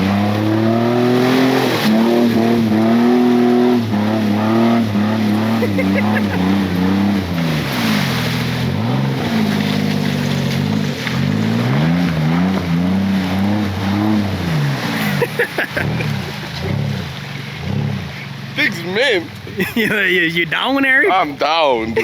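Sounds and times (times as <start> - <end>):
truck engine revving: 0.0 - 21.0
mud and water spraying: 0.0 - 22.0.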